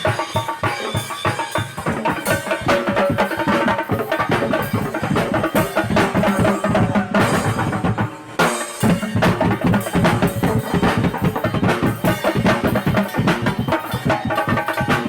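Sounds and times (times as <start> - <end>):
marching drums: 0.0 - 15.0.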